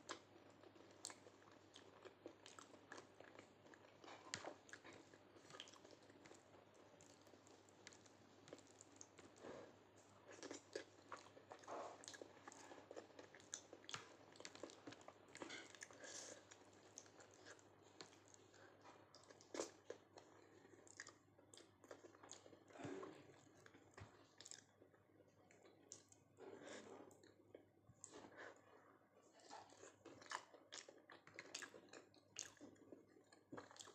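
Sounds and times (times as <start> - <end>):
person chewing: 0.1 - 28.7, 29.4 - 33.9.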